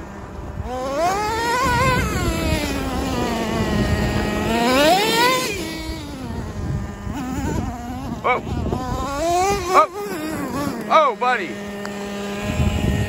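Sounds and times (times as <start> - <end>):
rc truck engine revving: 0.0 - 13.0.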